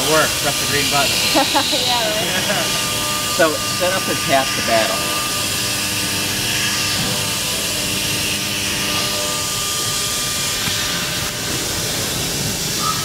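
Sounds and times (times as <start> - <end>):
milling machine whir: 0.0 - 13.0.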